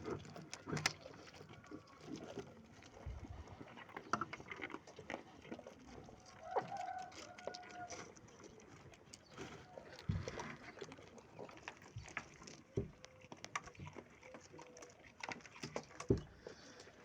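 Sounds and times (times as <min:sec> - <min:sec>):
animals clicking and knocking: 0:00.0 - 0:17.0.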